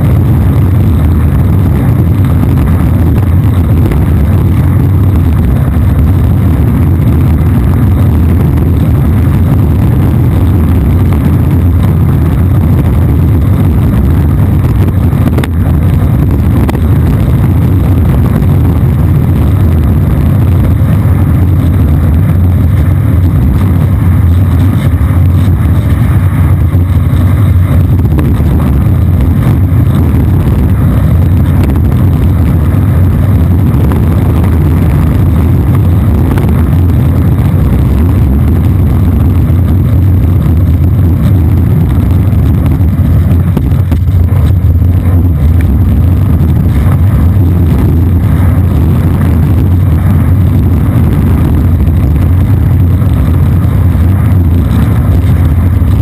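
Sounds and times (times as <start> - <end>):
skateboard wheels rolling on asphalt: 0.0 - 56.0.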